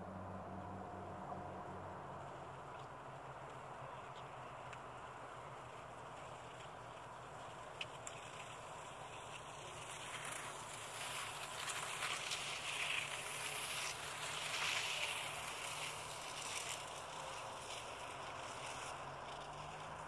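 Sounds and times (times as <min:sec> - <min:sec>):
distant aircraft engine: 0:00.0 - 0:20.0.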